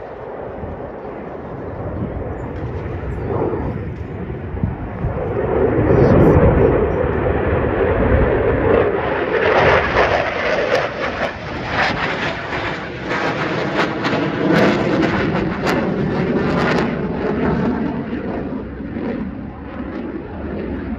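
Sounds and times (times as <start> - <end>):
jet flying past roaring: 0.0 - 20.9.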